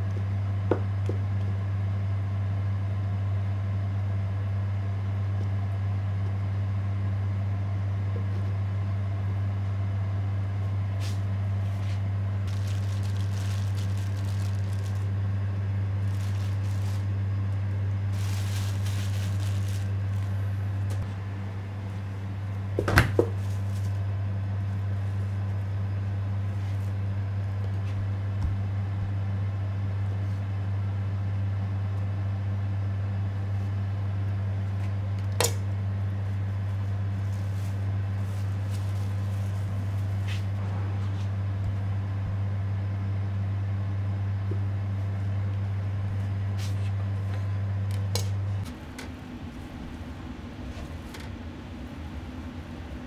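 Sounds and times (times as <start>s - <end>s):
low machine hum: 0.0s - 53.0s.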